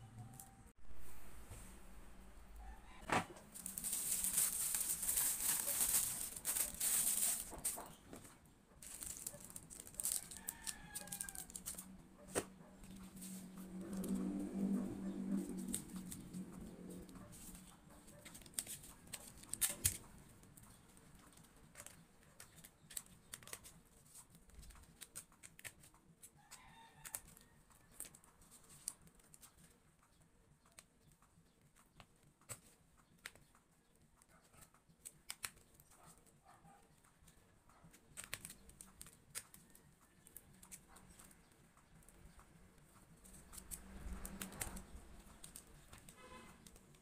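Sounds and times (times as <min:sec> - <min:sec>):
clicks and rustles of packaging: 0:03.3 - 0:14.3, 0:15.3 - 0:47.0.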